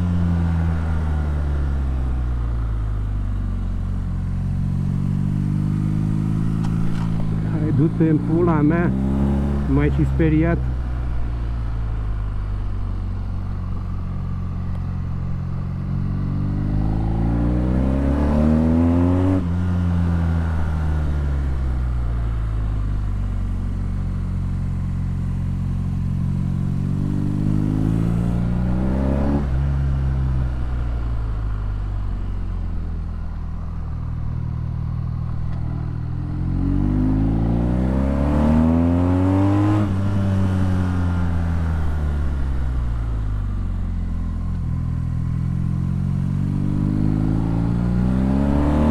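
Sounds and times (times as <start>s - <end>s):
motorcycle engine revving: 3.2s - 12.0s, 12.9s - 30.6s, 33.2s - 48.9s.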